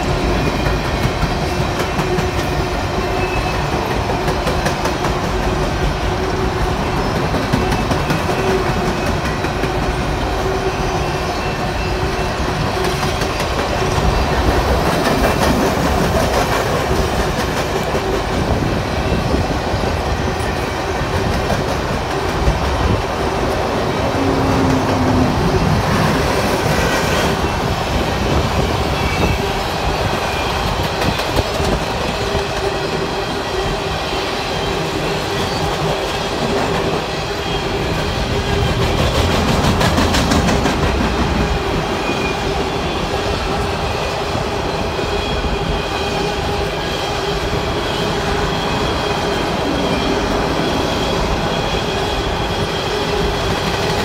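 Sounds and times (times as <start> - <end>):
freight train rolling past: 0.0 - 54.0
steel wheels clattering on rails: 0.0 - 54.0.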